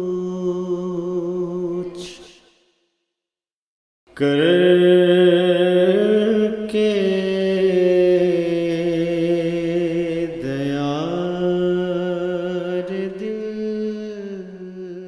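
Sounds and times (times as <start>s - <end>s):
person singing devotional song: 0.0s - 2.4s, 4.1s - 15.0s.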